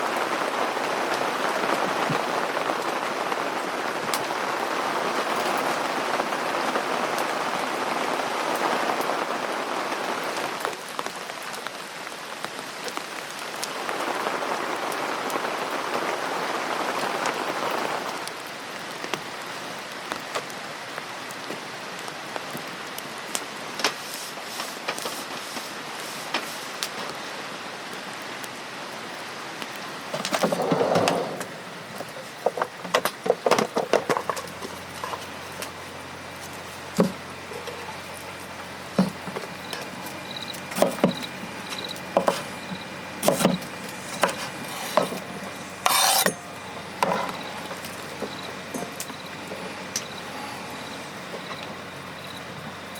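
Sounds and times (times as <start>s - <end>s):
rain falling steadily: 0.0s - 52.9s.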